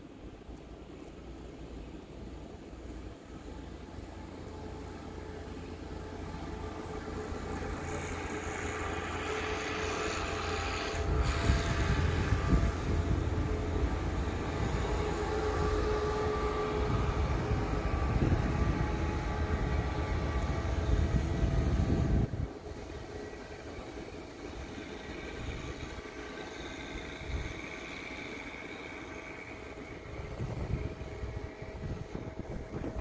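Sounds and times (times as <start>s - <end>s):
wind buffeting microphone: 3.5s - 33.0s.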